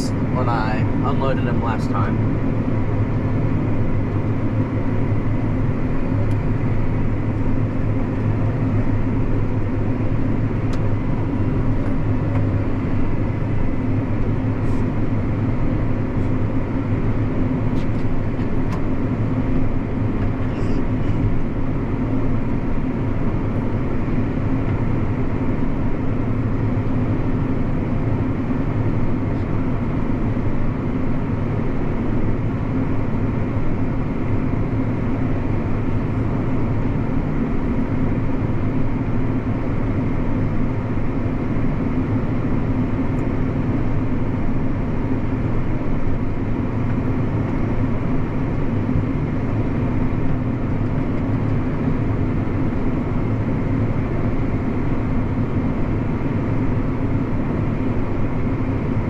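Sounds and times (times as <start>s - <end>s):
tractor engine drone: 0.0s - 59.0s.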